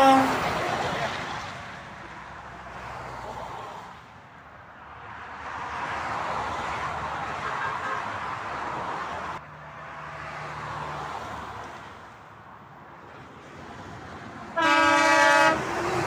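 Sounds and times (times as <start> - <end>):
vehicles passing on motorway: 0.0 - 16.0.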